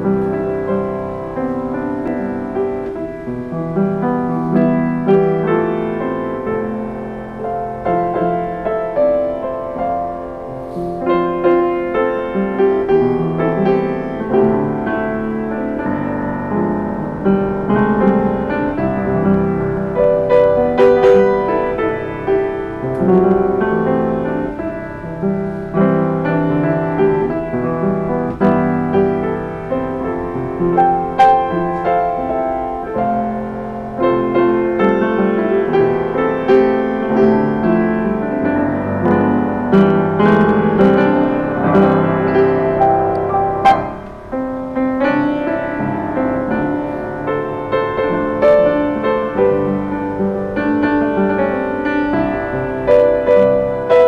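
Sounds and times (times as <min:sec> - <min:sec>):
upright piano playing chords: 0:00.0 - 0:54.0.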